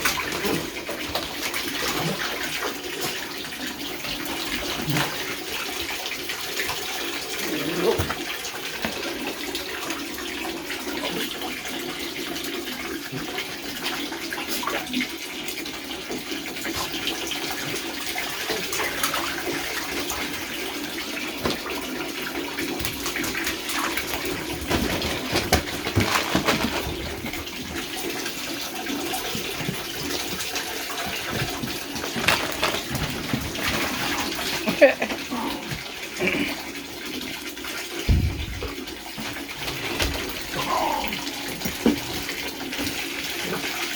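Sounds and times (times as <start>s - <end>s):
water running from tap into tub: 0.0s - 43.9s
water splashes: 0.0s - 43.9s.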